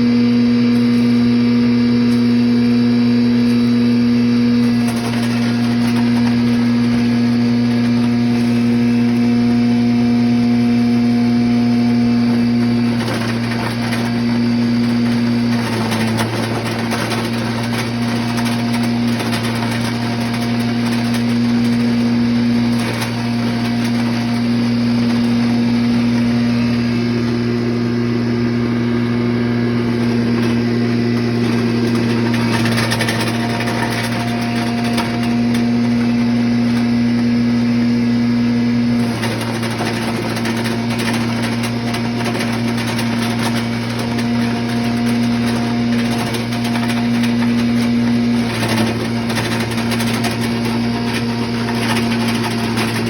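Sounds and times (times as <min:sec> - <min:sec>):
wood chipper grinding: 0:00.0 - 0:53.0.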